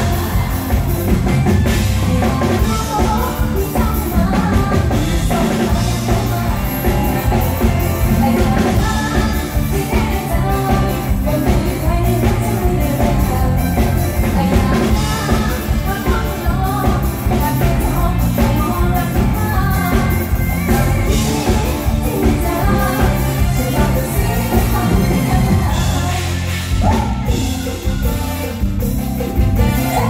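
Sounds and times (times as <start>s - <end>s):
woman singing into a microphone: 0.0s - 28.7s, 29.6s - 30.0s
live band music: 0.0s - 30.0s.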